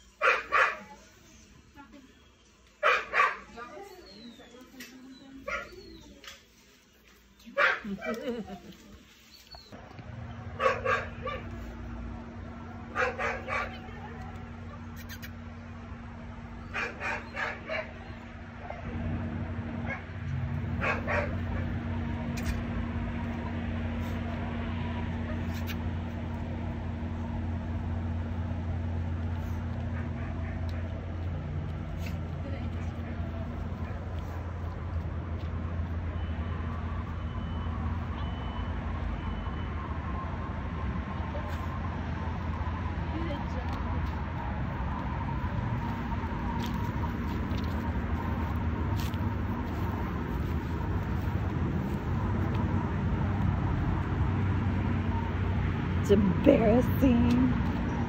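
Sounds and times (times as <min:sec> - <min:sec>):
steady mechanical rumble and hum: 0:09.5 - 0:39.2, 0:39.8 - 0:58.0.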